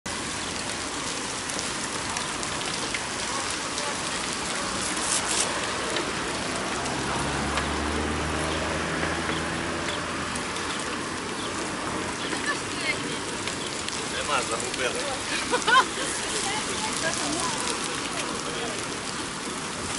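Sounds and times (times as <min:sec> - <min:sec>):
bicycle tyres on wet asphalt: 0:00.1 - 0:19.9
rain hiss: 0:00.1 - 0:19.9.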